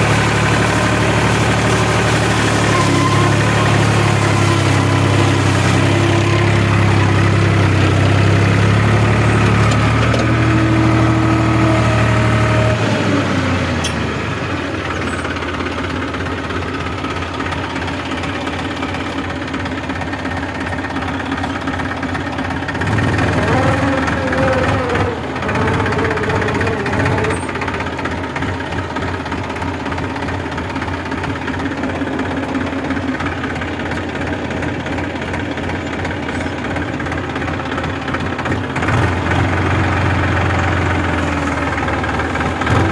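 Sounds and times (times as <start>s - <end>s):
tractor diesel engine droning: 0.0s - 42.9s.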